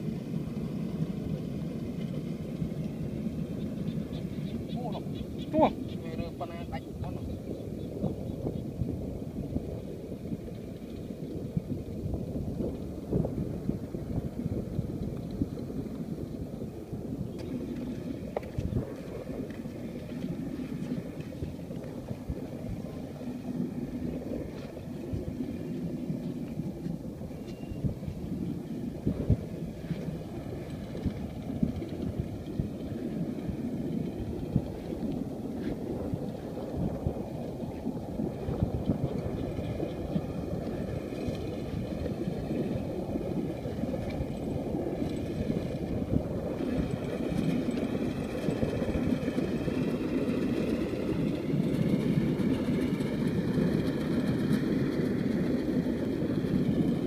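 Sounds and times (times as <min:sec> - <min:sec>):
distant engine hum: 0:00.0 - 0:57.0
wind buffeting microphone: 0:00.0 - 0:57.0.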